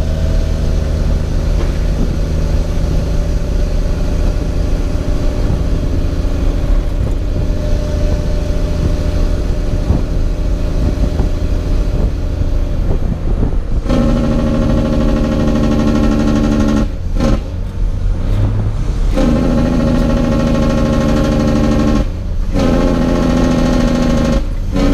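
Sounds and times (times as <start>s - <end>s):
diesel truck engine droning: 0.0s - 24.9s.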